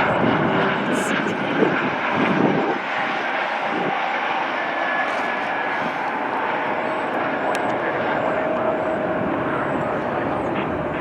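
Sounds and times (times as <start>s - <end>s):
faint high whine: 0.0s - 11.0s
jet engines rushing: 0.0s - 11.0s.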